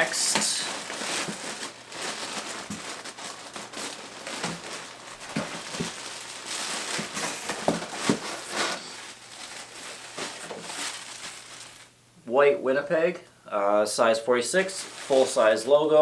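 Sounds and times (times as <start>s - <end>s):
packaging crinkling and rustling: 0.0s - 11.9s, 14.6s - 16.0s.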